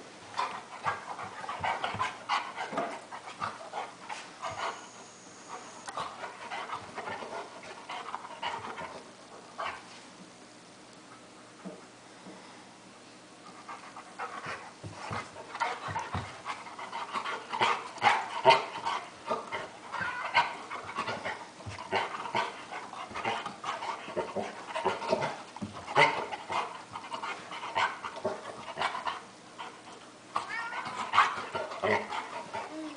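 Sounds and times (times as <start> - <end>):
dog panting: 0.4 - 9.0, 13.5 - 30.1, 30.7 - 32.9.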